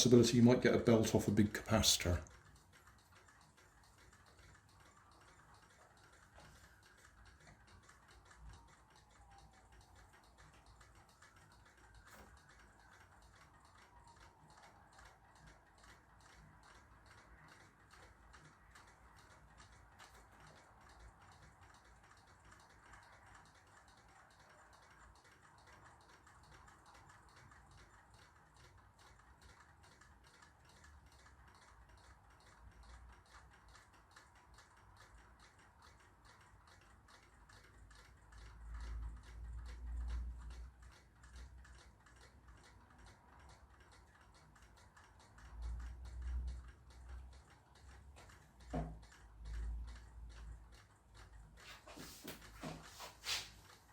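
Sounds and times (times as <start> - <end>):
clock ticking: 0.0 - 53.9.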